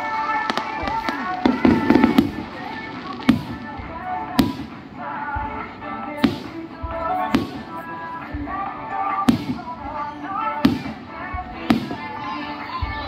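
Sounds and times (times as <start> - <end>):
firework shells bursting: 0.0 - 12.4
music playing: 0.0 - 13.0.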